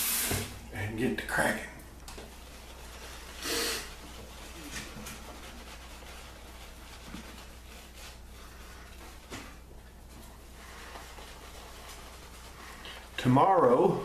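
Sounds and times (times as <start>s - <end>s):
brush swish: 2.2s - 13.9s
shaving brush rubbing lather: 2.2s - 13.9s.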